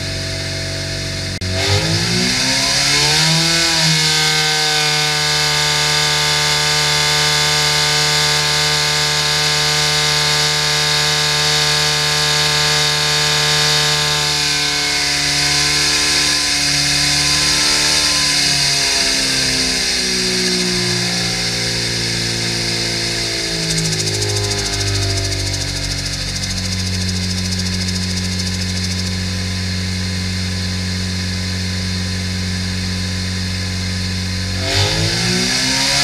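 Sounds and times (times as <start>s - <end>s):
engine running hard on dyno: 0.0s - 36.0s.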